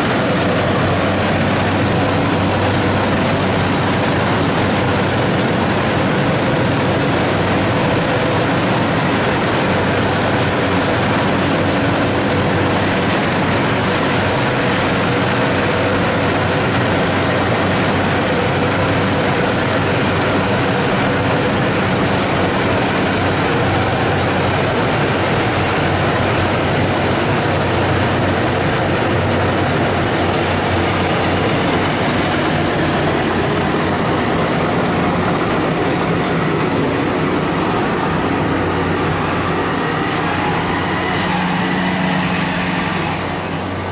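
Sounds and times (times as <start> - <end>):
combine harvester mechanical drone: 0.0 - 43.9.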